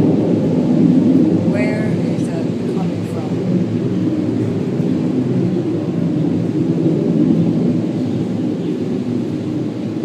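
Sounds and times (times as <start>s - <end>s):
low rumbling drone: 0.0s - 10.0s.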